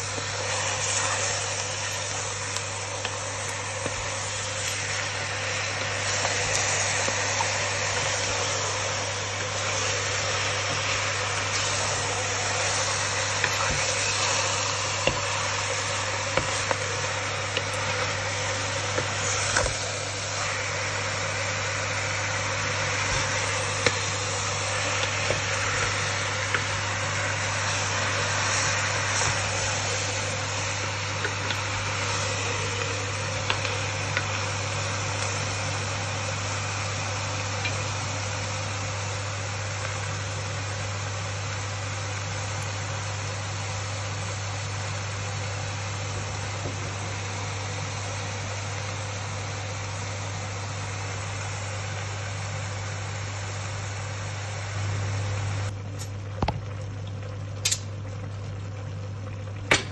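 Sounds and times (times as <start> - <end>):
chicken simmering hiss: 0.0 - 59.9.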